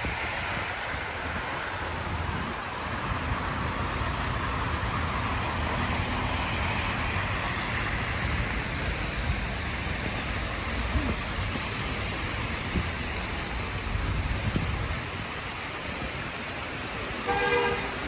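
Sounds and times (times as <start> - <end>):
cars driving past: 0.0 - 18.0.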